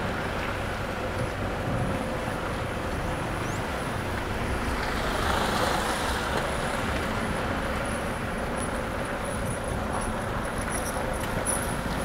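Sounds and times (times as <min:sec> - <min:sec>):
car interior road hum: 0:00.0 - 0:12.0.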